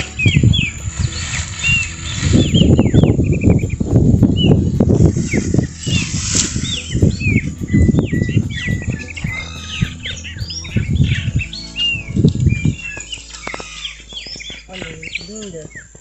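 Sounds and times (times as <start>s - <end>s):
gusty wind on microphone: 0.0s - 16.0s
small birds chirping: 0.0s - 16.0s.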